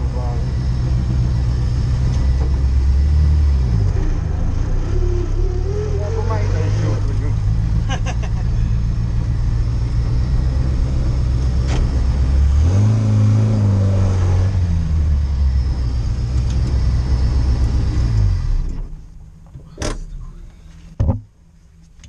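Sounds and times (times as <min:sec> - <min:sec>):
car engine running from inside cabin: 0:00.0 - 0:22.0.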